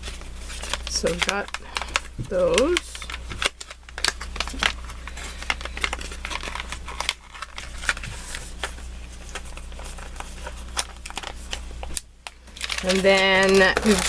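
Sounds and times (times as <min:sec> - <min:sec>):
paper and packaging rustling: 0:00.0 - 0:14.0
steady low hum: 0:00.0 - 0:14.0.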